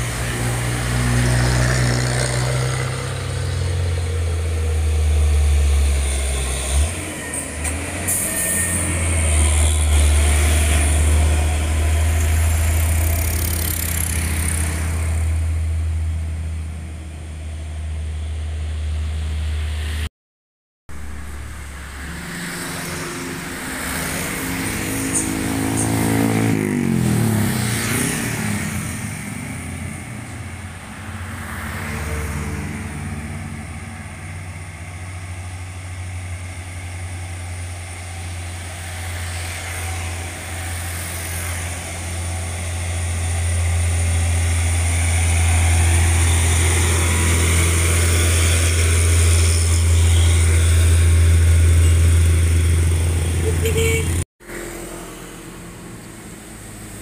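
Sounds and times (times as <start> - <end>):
quieter truck engine: 0.0 - 20.1, 20.9 - 57.0
truck diesel engine drone: 0.0 - 20.1, 20.9 - 57.0.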